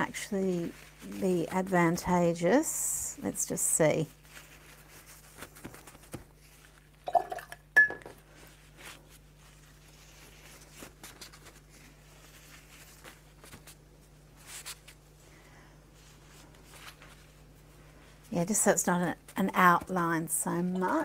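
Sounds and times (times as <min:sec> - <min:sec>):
paper towel rustling on paper: 0:00.0 - 0:07.0, 0:08.2 - 0:21.0
faint steady hum: 0:00.0 - 0:21.0.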